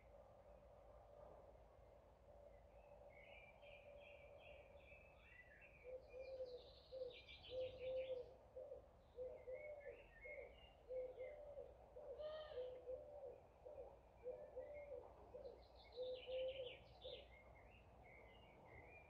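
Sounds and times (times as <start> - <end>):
low repeated bird calls: 2.5 - 19.0.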